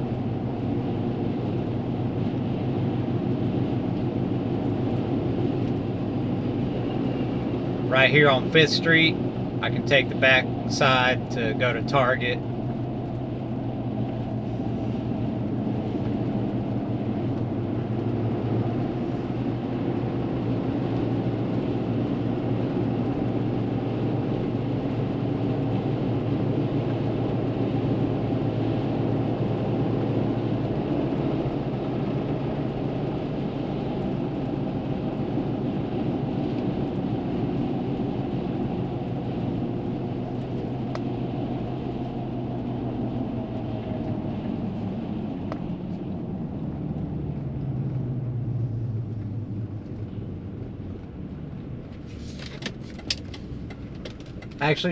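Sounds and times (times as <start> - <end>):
low truck engine hum: 0.0 - 54.9.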